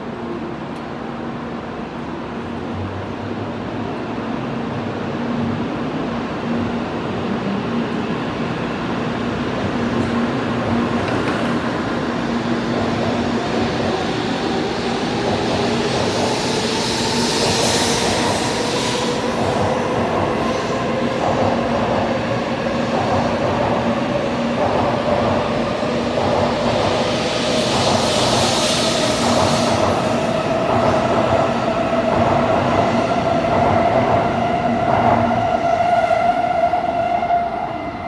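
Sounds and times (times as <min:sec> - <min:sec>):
train rumble and hum: 0:00.0 - 0:38.0.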